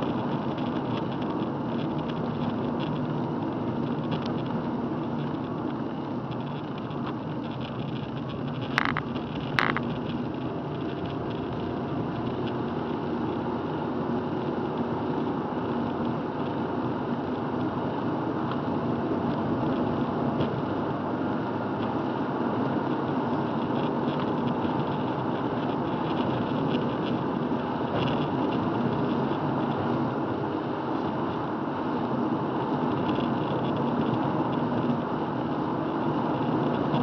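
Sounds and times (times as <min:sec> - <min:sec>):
car driving on wet highway: 0:00.0 - 0:37.0.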